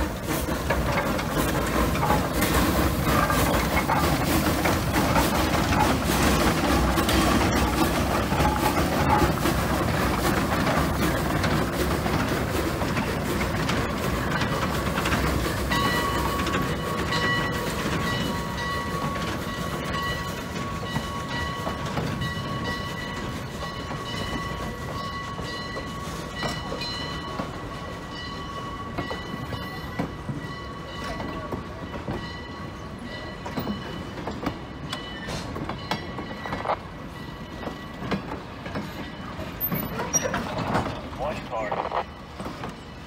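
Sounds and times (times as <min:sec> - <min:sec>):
steam locomotive rumbling and clanking: 0:00.0 - 0:43.0.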